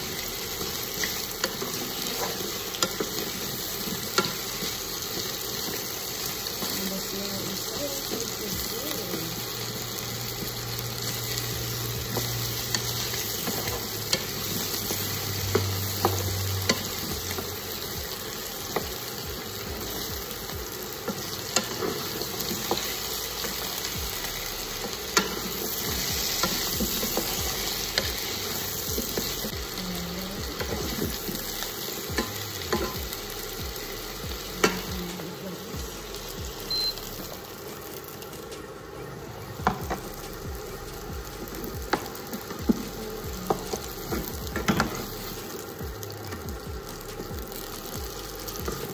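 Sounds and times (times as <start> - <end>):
vegetables sizzling in a pan: 0.0 - 48.9.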